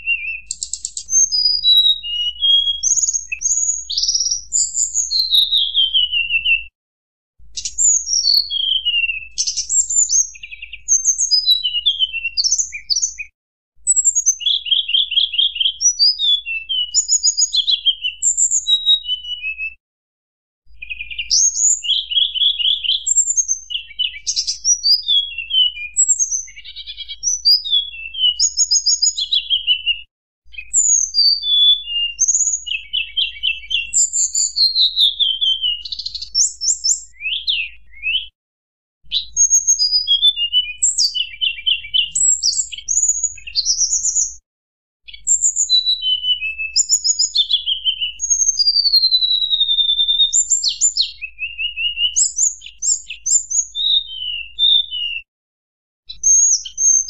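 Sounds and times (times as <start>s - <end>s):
flycatcher singing whistles and trills: 0.0s - 6.8s, 7.5s - 19.8s, 20.7s - 38.4s, 39.1s - 44.4s, 45.1s - 55.3s, 56.1s - 57.0s.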